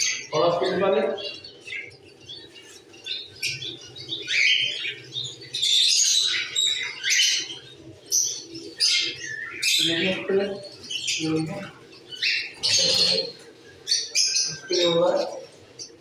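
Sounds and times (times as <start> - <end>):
caged birds chirping and calling: 0.0 - 16.0.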